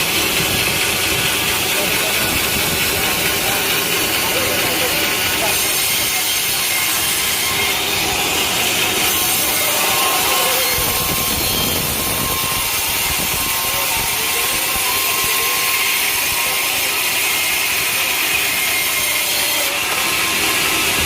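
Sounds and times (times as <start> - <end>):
saw cutting through log: 0.0 - 21.0.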